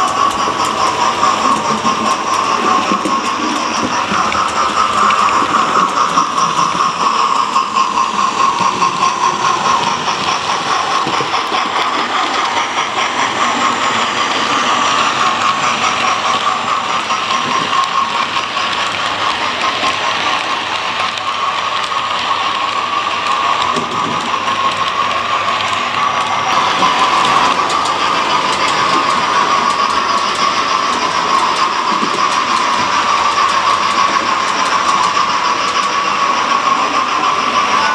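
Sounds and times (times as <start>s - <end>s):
model train running on track: 0.0s - 37.9s.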